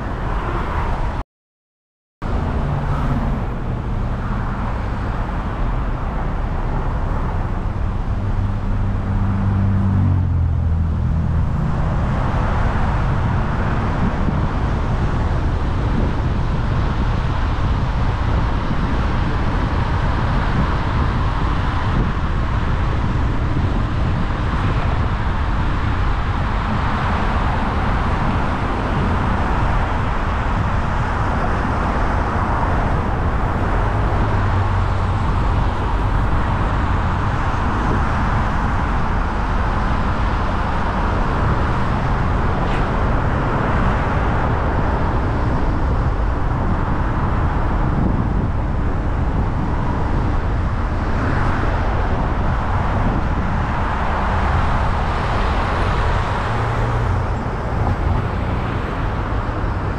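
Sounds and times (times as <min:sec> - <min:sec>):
car road and tyre noise: 0:00.0 - 0:01.2, 0:02.2 - 0:59.9.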